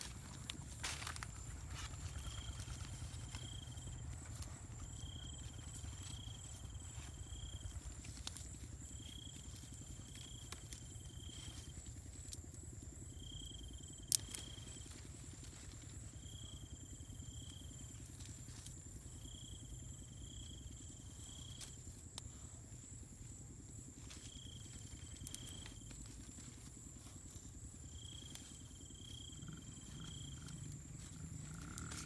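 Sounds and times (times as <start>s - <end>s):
insects chirping: 0.0s - 32.0s
insects droning: 0.0s - 32.0s.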